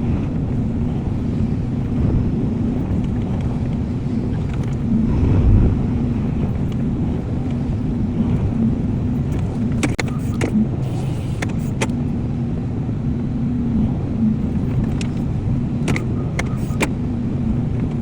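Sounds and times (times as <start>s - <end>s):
excavator diesel engine running: 0.0s - 12.4s, 13.9s - 18.0s.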